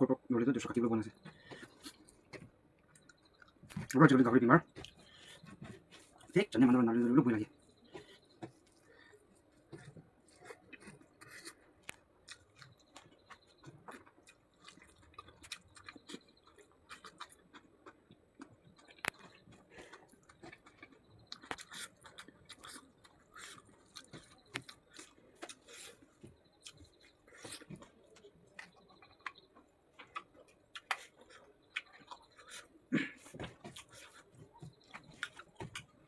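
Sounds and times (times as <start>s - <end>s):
soft crunches of chewing: 0.6s - 36.0s.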